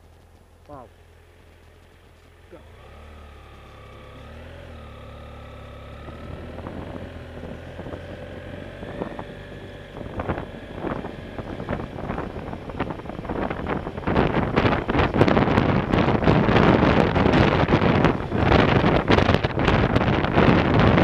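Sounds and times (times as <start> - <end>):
motorcycle engine running: 0.0 - 21.0
wind buffeting on microphone: 4.2 - 21.0.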